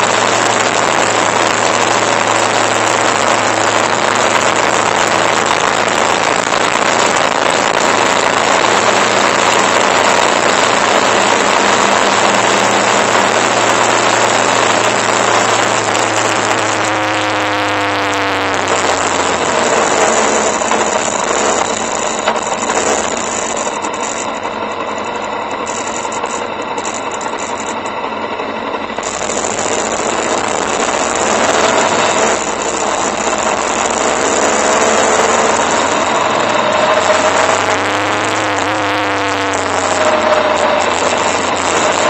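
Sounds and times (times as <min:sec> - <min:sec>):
wind rush on camera: 0:00.0 - 0:28.1, 0:28.8 - 0:42.0
motorcycle engine running: 0:00.0 - 0:42.0.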